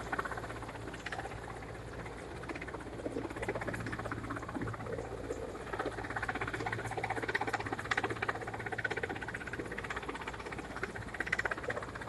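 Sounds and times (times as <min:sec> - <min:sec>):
helicopter rotor chopping: 0:00.0 - 0:12.0
low turbine hum: 0:00.0 - 0:12.0.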